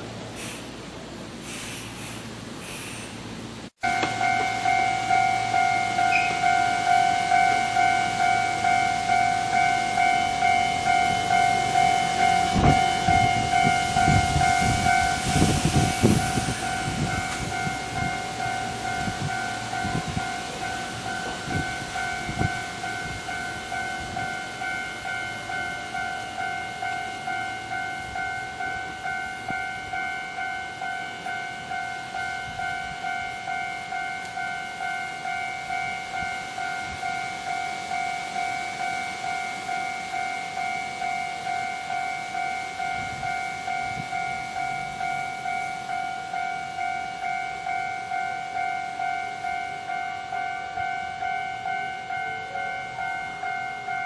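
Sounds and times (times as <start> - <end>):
level-crossing warning bell: 3.8 - 54.0.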